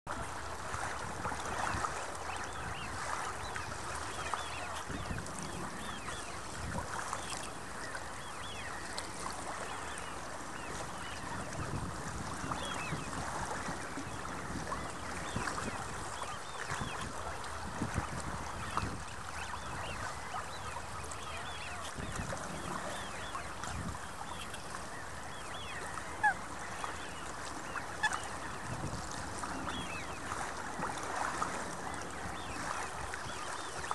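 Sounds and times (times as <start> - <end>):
wind rumbling on microphone: 0.1 - 33.9
waterfowl calling: 0.2 - 33.9.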